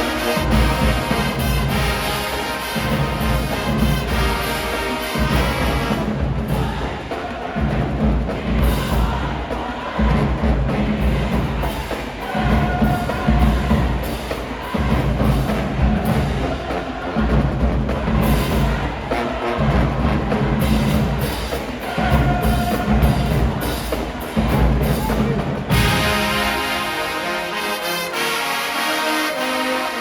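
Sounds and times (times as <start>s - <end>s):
brass section playing: 0.0s - 7.5s, 10.0s - 30.0s
bass drums: 0.0s - 26.6s
snare drum strokes: 0.0s - 30.0s.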